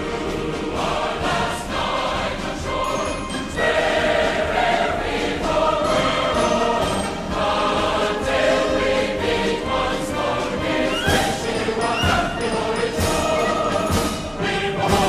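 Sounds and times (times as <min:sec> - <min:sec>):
choir holding long chords: 0:00.0 - 0:15.0
choral accompaniment: 0:00.0 - 0:15.0.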